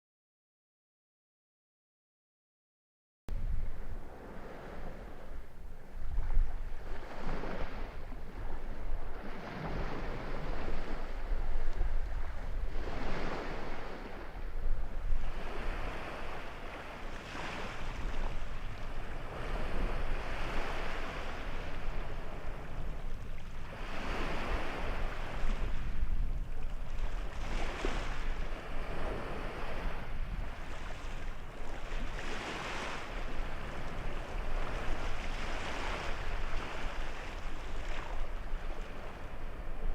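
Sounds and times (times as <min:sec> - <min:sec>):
wind buffeting microphone: 0:03.3 - 0:39.9
sea waves washing ashore: 0:03.4 - 0:39.9.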